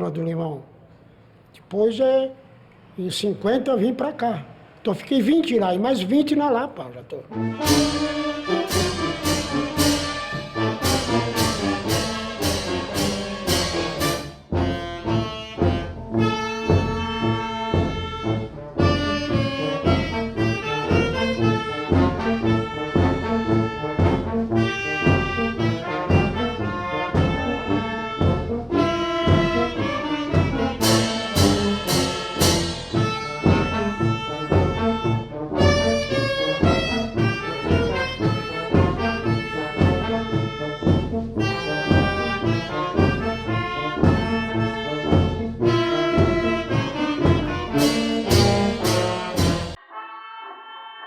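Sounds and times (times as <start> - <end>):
trombones and trumpets playing: 7.3 - 49.8
steady percussion beat: 7.4 - 49.8.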